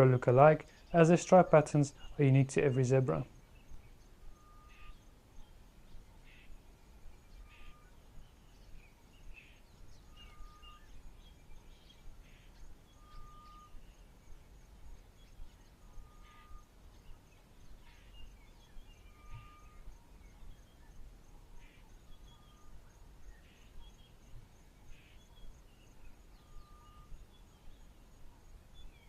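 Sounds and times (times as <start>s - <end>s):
faint high pulsing: 0.0s - 28.9s
birds chirping: 0.0s - 29.0s.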